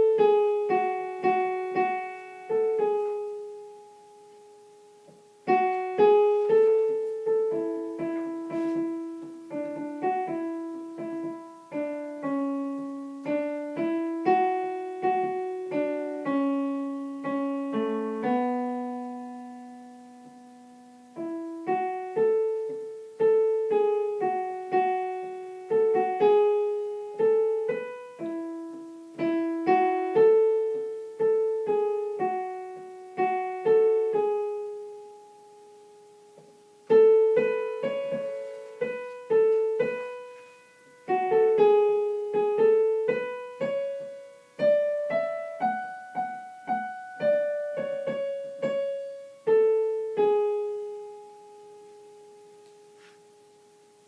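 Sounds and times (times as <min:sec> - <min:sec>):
piano melody: 0:00.0 - 0:54.0.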